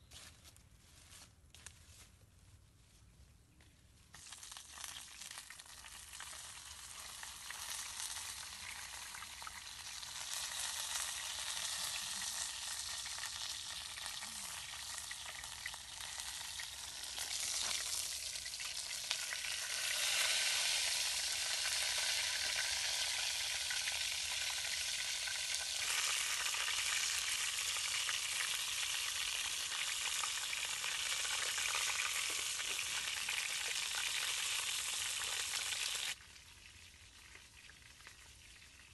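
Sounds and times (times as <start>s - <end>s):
fish sizzling in hot oil: 4.2s - 38.8s.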